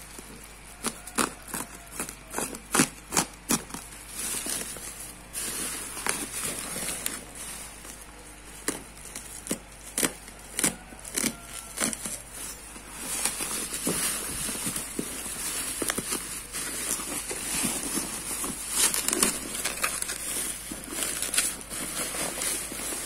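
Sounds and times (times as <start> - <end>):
plastic bubble wrap crinkling: 0.0 - 23.0
plastic crackling and snapping: 0.0 - 23.0.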